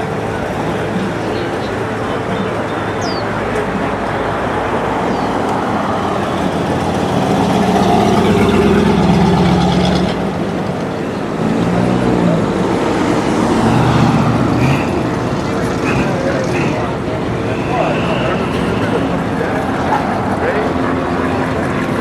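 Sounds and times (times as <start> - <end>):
crowd chatter: 0.0 - 22.0
second engine: 0.0 - 22.0.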